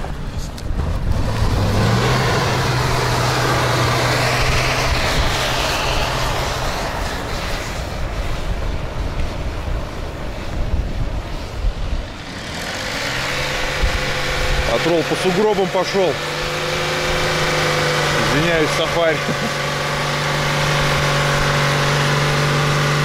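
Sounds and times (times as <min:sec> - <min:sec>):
broad rushing noise: 0:00.0 - 0:23.0
vehicle engine humming: 0:00.0 - 0:23.0.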